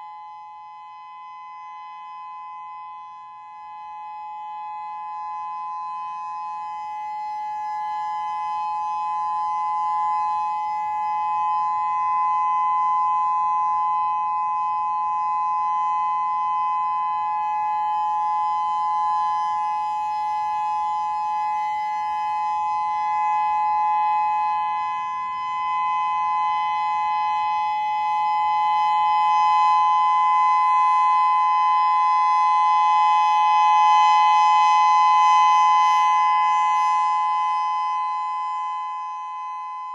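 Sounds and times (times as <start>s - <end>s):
electronic warning siren two-tone chord: 0.0s - 39.9s.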